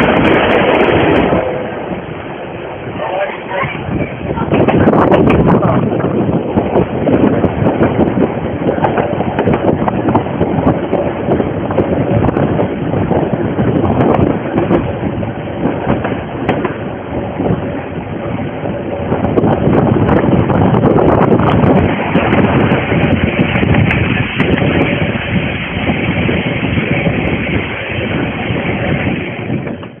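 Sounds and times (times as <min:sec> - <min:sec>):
steam train running: 0:00.0 - 0:30.0
wind on microphone: 0:00.0 - 0:30.0.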